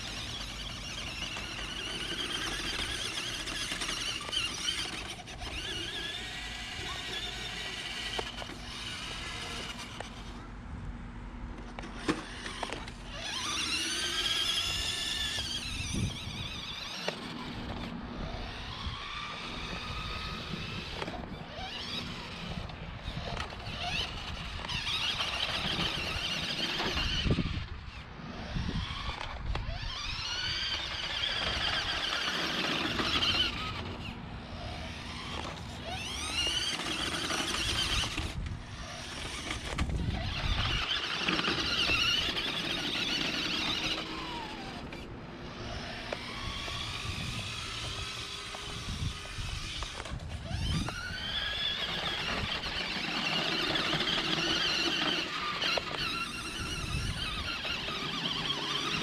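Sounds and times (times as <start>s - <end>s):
toy truck electric motor whining: 0.0s - 10.5s, 11.5s - 59.0s.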